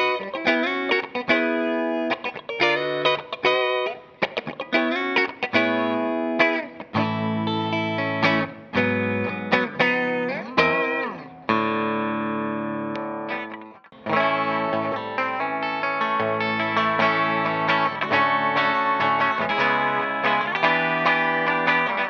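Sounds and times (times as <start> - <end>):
clean electric guitar playing: 0.0 - 22.0.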